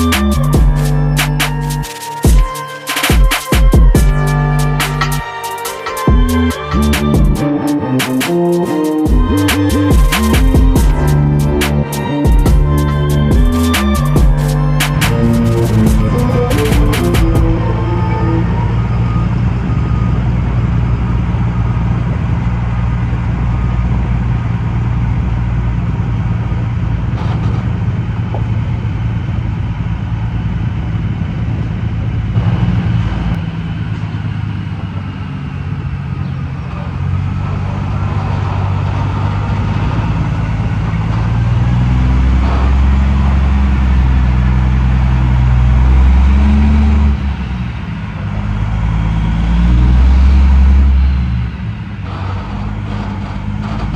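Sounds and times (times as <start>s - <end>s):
diesel truck engine under load: 0.0s - 53.9s.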